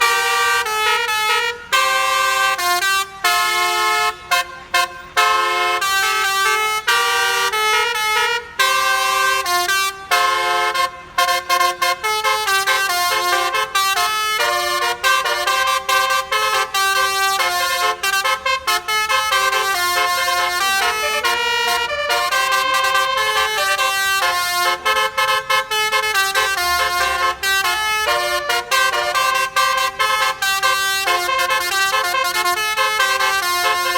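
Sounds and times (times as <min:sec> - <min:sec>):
multi-tone air horn tune: 0:00.0 - 0:33.9.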